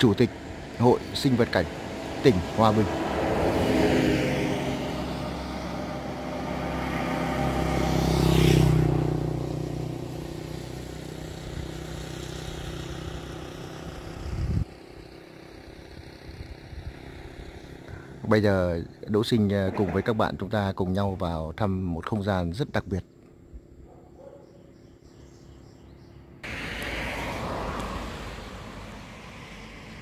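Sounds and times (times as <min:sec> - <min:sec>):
vehicles passing on road: 0:00.0 - 0:30.0.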